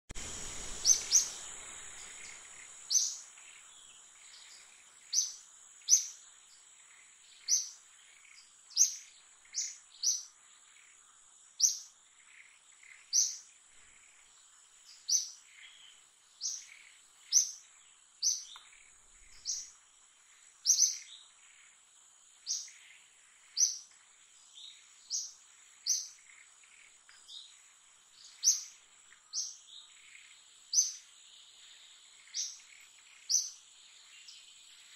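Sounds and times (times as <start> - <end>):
bird chirps: 0.2 - 11.0, 11.6 - 14.2, 14.9 - 19.8, 20.6 - 21.8, 22.4 - 34.9
insect drone: 0.2 - 34.9.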